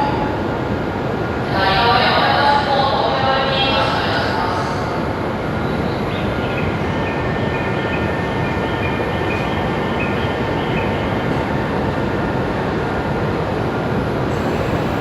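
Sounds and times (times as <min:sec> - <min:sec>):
train rail and running noise: 0:00.0 - 0:15.0.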